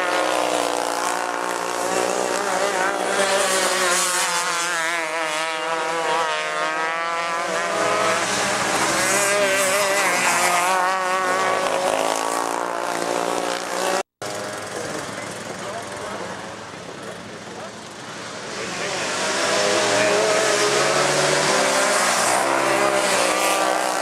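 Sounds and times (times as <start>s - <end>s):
kart engines racing: 0.0s - 24.0s.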